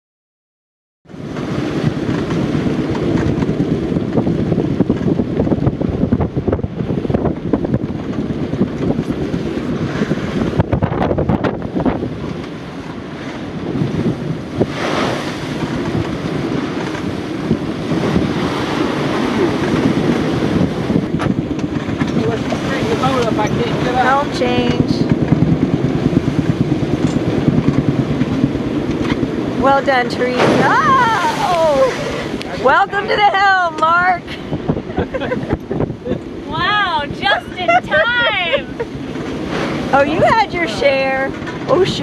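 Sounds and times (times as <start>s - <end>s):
waves breaking around boat: 1.1s - 42.0s
wind buffeting microphone: 1.1s - 42.0s.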